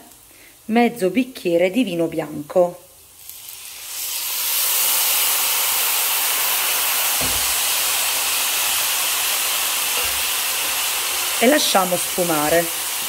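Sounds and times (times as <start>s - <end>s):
wine sizzling in a hot pan: 0.0s - 13.0s.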